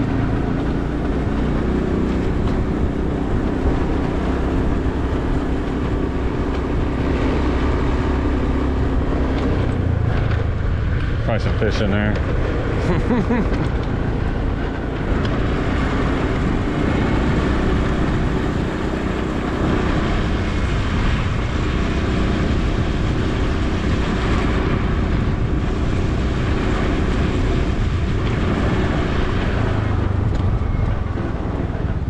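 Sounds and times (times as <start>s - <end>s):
motorbike engine rumble: 0.0s - 32.0s
wind noise: 0.0s - 32.0s.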